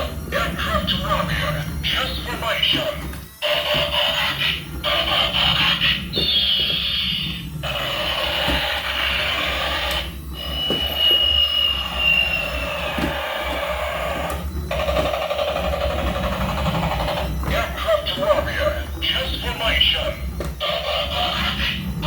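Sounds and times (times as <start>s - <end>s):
toy electronic alarm tones: 0.0s - 22.0s.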